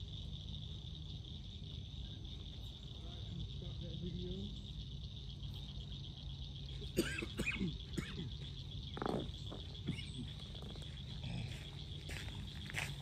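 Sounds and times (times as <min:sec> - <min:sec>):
frogs and insects trilling: 0:00.0 - 0:13.0.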